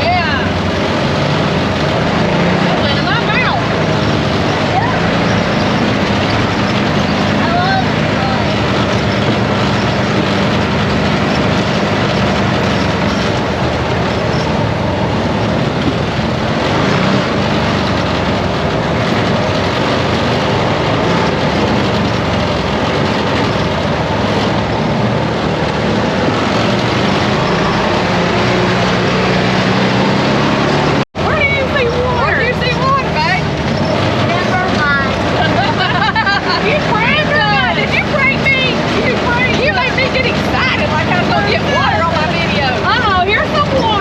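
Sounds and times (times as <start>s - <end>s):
atv engine running: 0.0s - 44.0s
rushing rumble: 0.0s - 44.0s.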